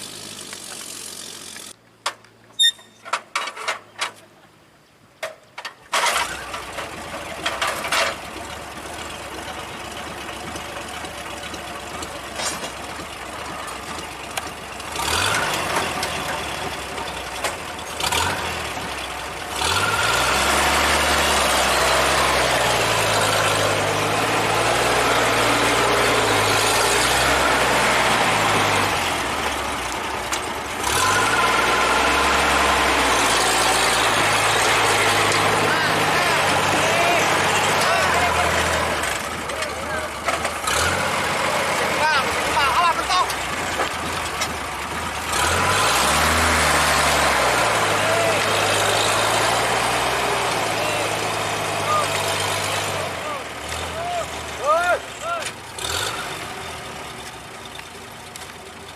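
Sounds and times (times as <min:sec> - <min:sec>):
truck engine starting and running: 0:00.0 - 0:04.2, 0:05.2 - 0:58.9.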